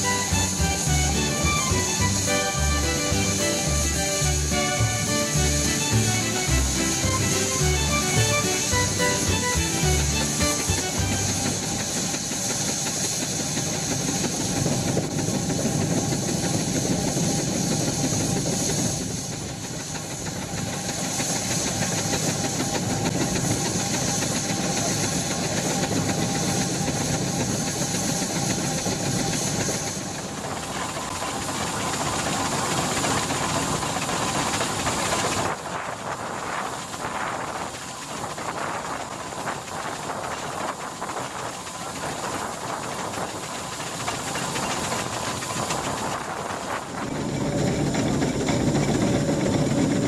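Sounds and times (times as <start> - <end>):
steam engine running: 0.0 - 50.0
steam hissing: 0.0 - 50.0.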